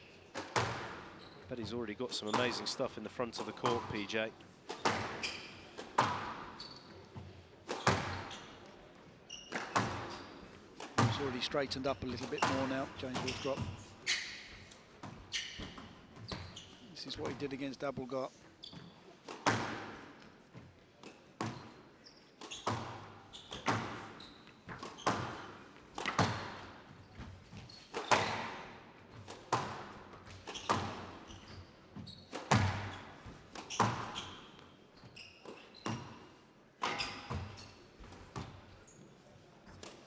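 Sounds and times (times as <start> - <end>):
squash ball hitting rackets and walls: 0.2 - 1.2, 2.1 - 8.8, 9.4 - 17.5, 18.7 - 20.4, 21.0 - 34.6, 35.4 - 38.7.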